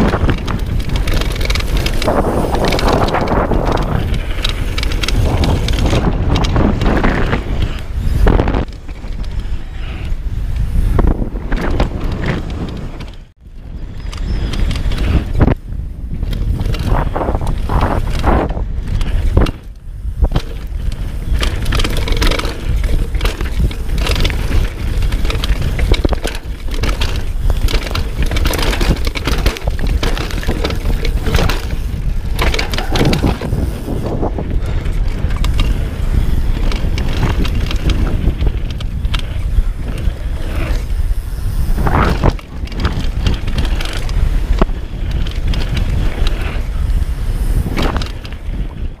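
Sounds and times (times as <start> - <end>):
bike chain and frame clattering: 0.0 - 49.0
bike tyre roar on dirt: 0.0 - 49.0
wind on microphone: 0.0 - 49.0.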